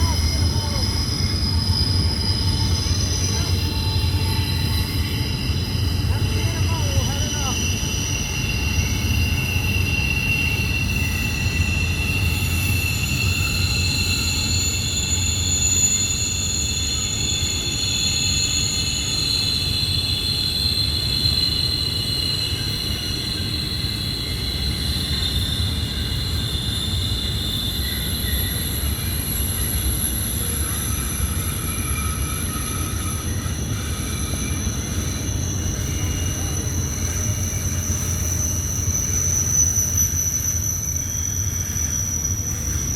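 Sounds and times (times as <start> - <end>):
low train rumble: 0.0 - 42.9
train wheels squealing: 0.0 - 42.9.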